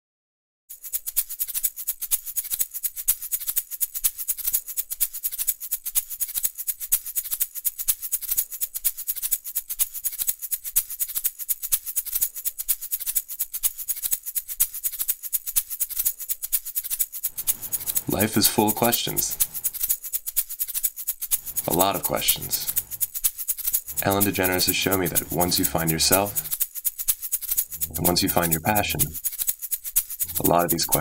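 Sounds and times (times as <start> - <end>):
fast high-pitched percussion rhythm: 0.7 - 31.0.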